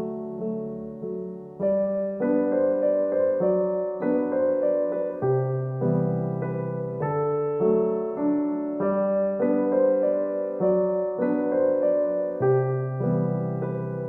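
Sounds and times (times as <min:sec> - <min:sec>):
gentle keyboard tune: 0:00.0 - 0:14.0.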